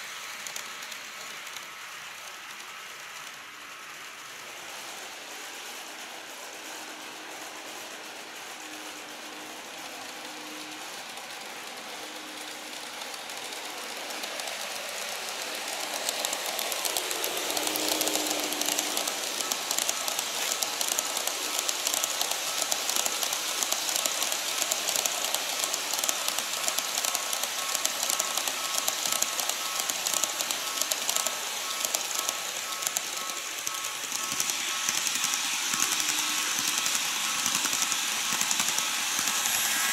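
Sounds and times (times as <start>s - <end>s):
faint motor whine: 0.0s - 39.9s
model train wheels clattering: 0.0s - 39.9s.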